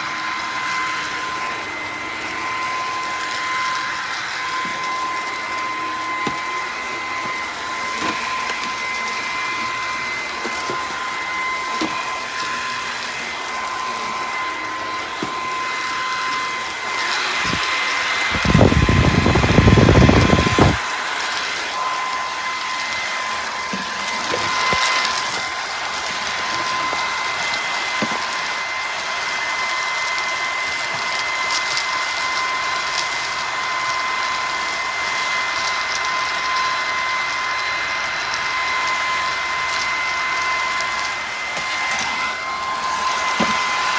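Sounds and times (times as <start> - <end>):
vacuum cleaner motor whine: 0.0 - 43.9.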